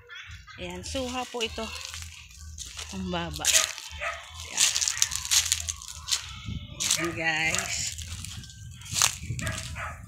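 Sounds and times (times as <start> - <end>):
footsteps crunching on dry leaves: 0.6 - 10.0.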